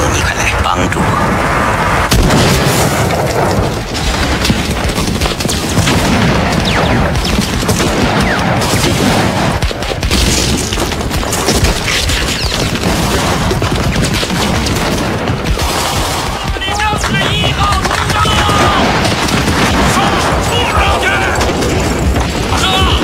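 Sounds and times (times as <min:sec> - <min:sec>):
explosions: 0:00.0 - 0:23.0
rifle and machine-gun fire: 0:02.0 - 0:23.0.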